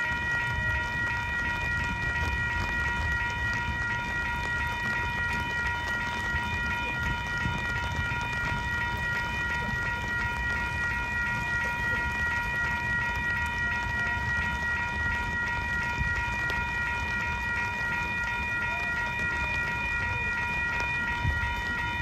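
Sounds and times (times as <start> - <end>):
railroad crossing bell ringing: 0.0 - 22.0.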